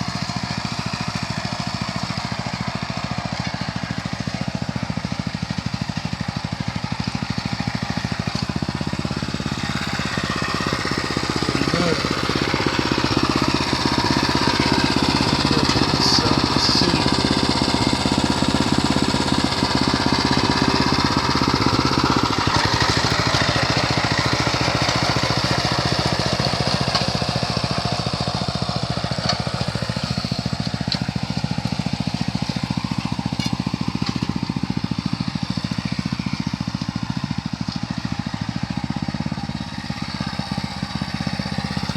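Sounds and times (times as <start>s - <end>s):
small engine chugging: 0.0s - 41.9s.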